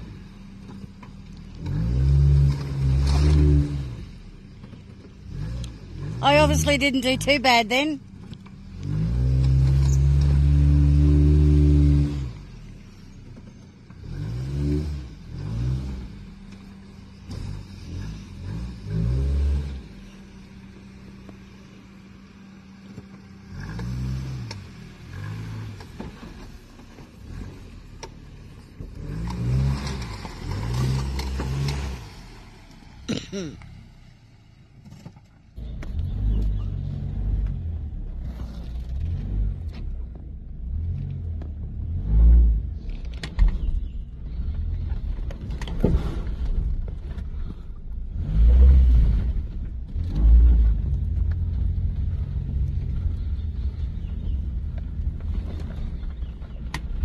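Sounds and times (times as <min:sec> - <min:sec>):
car engine running at low speed: 0:00.0 - 0:57.0.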